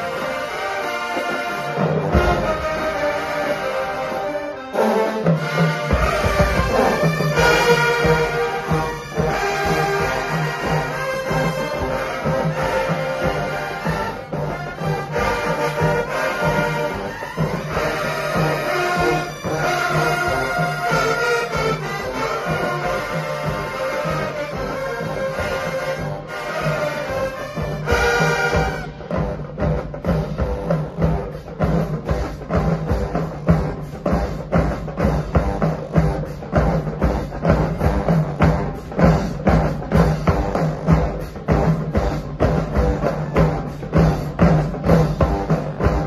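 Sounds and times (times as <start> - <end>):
brass section: 0.0 - 46.0
marching band horns: 0.0 - 46.0
steady drum beat: 0.0 - 46.0.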